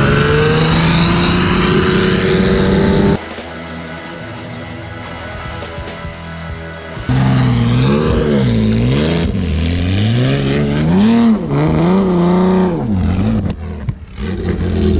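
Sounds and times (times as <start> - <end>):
race car engine revving: 0.0 - 14.9.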